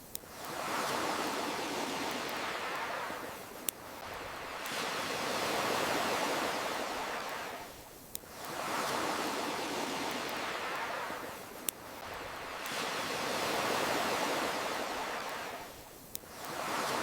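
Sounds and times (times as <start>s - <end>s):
campfire crackles: 0.0s - 17.0s
ocean waves washing: 0.2s - 17.0s.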